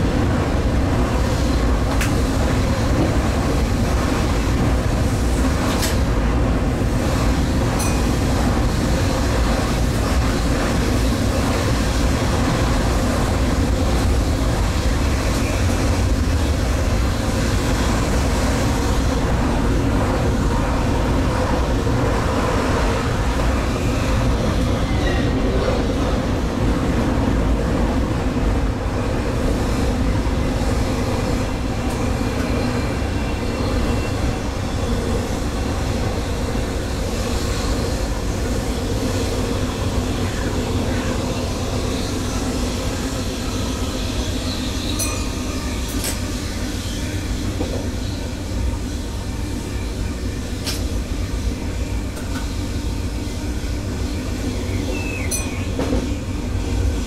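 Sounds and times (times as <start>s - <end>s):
train engine: 0.0s - 57.0s
wheels on rail: 0.0s - 57.0s.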